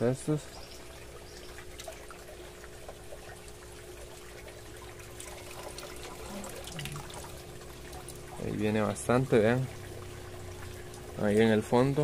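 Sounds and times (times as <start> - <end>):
water trickling into barrel: 0.0 - 12.0.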